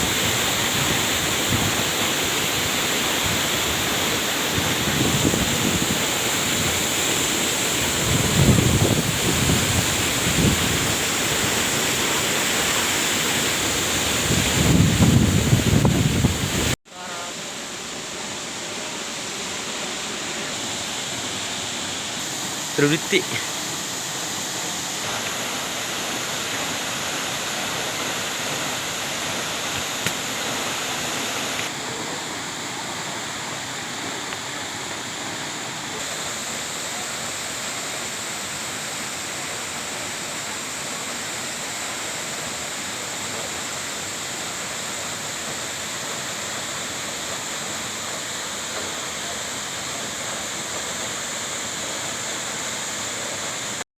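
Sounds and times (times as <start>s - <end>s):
waterfall rushing: 0.0s - 53.8s.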